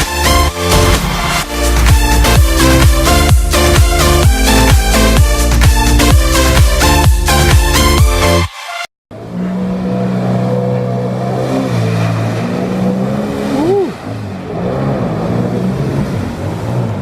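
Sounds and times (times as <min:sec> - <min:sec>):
jet ski engine running: 0:00.2 - 0:08.0, 0:09.1 - 0:17.0.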